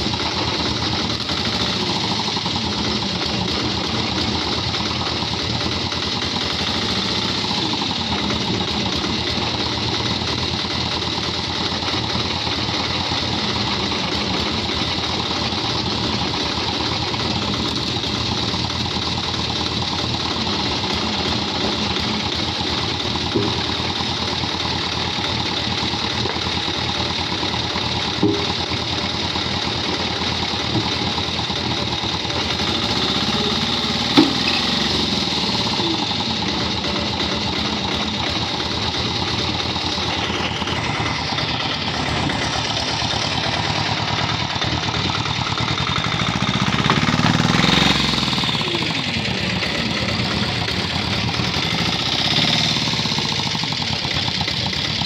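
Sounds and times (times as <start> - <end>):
hydraulic log splitter droning: 0.0 - 55.0.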